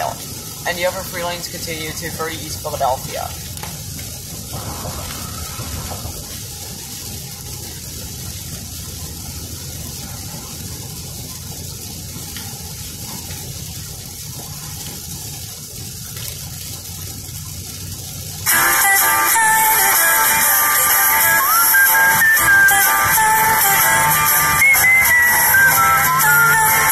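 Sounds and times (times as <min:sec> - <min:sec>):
heavy rain hissing: 0:00.0 - 0:26.9
low road rumble: 0:00.0 - 0:26.9
tyres on wet road: 0:00.0 - 0:26.9.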